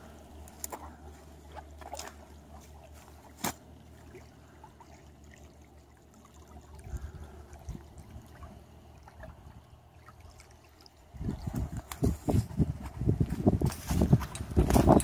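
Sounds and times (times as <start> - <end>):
pond water trickling: 0.0 - 15.0.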